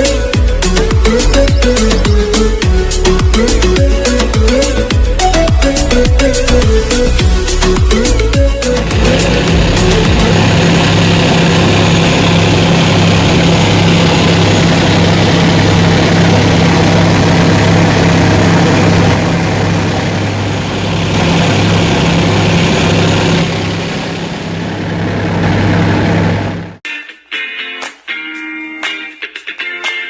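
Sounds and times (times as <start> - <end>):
boat engine droning: 0.0 - 26.8.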